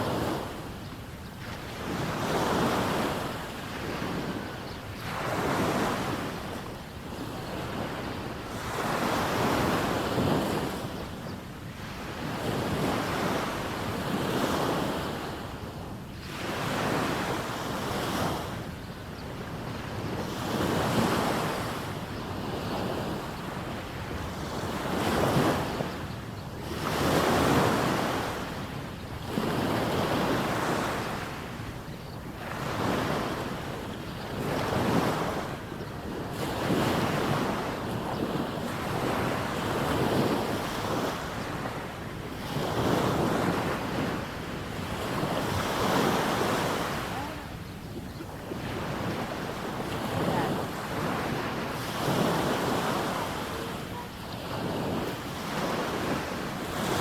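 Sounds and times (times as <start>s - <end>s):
small waves breaking on sand: 0.0s - 57.0s.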